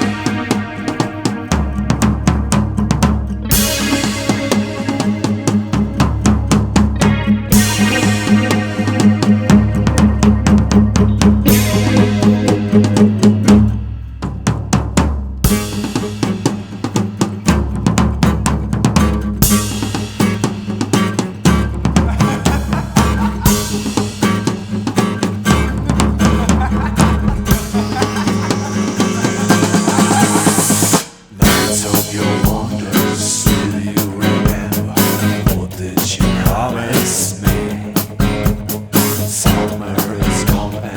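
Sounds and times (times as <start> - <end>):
drum kit playing busy beat: 0.0 - 40.9
sustained bass: 0.0 - 40.9.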